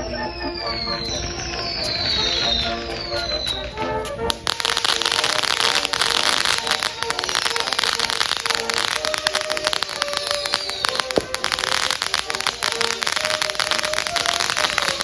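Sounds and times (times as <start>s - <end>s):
falling firework whistle: 0.0s - 15.0s
fireworks crackling with sharp pops: 0.0s - 15.0s
loud firework hiss: 0.6s - 3.6s, 4.3s - 15.0s.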